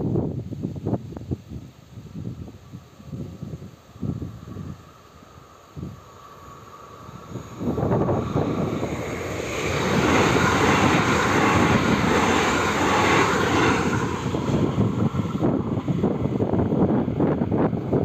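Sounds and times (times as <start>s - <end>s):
train wheels rumbling on rails: 3.1s - 18.0s.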